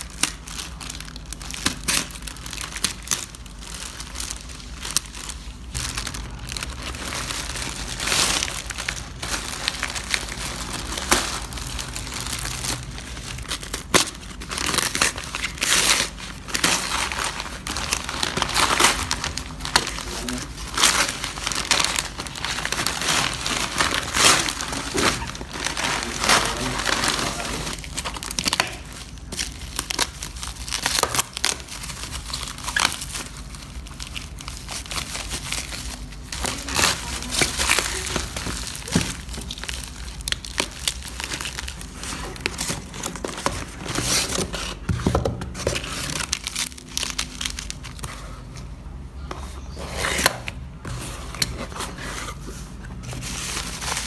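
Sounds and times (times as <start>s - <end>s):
packaging tearing: 0.0s - 48.3s
packaging crinkling and crumpling: 0.0s - 54.0s.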